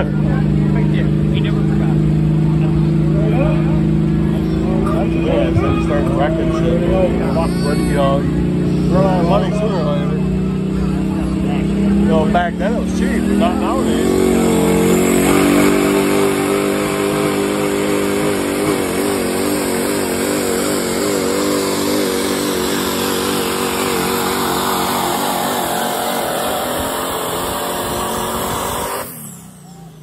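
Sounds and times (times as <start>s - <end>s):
diesel engine under heavy load: 0.0s - 30.0s.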